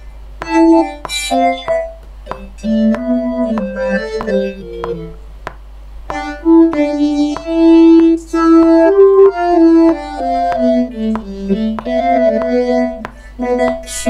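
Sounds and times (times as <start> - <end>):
vocoded singing: 0.4 - 5.2, 6.1 - 14.0.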